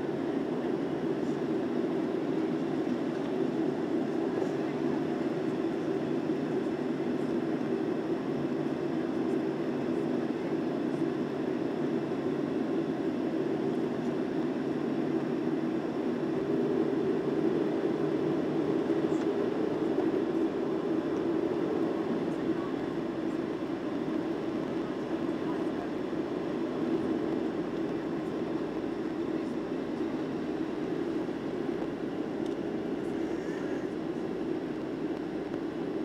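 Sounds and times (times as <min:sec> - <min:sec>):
airplane engines low hum: 0:00.0 - 0:36.0.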